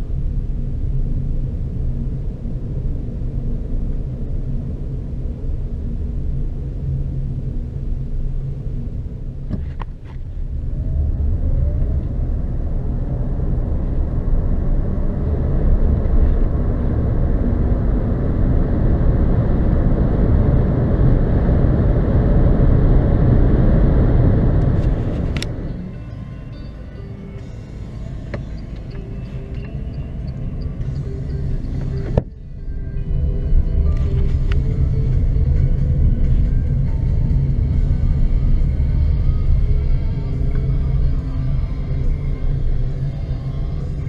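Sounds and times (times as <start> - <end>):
car road and wind rumble: 0.0 - 44.0.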